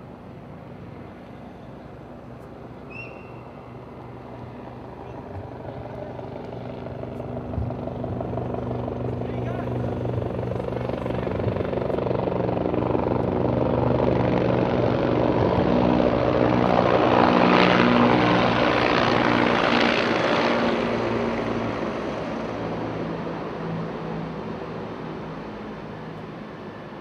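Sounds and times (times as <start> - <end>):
helicopter flying over: 0.0 - 27.0.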